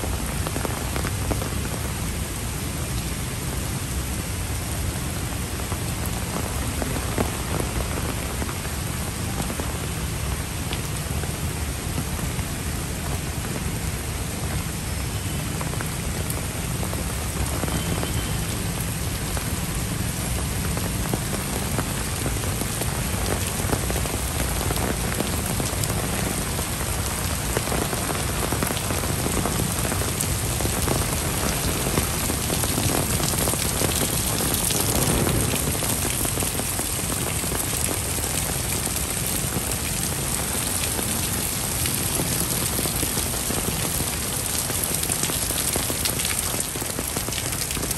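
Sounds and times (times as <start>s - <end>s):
heavy rain on paving and leaves: 0.0s - 47.9s.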